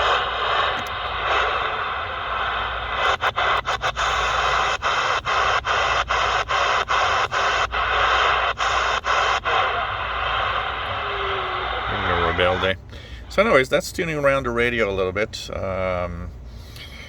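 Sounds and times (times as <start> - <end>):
shortwave radio static hiss: 0.0 - 14.7.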